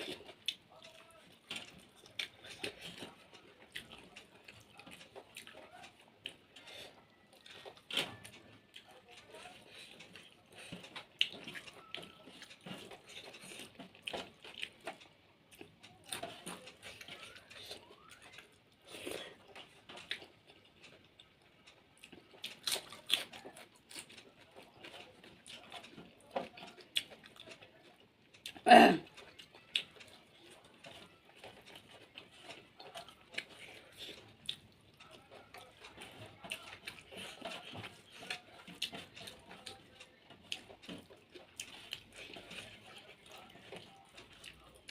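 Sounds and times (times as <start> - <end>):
chewing and mouth clicks: 0.0 - 44.9.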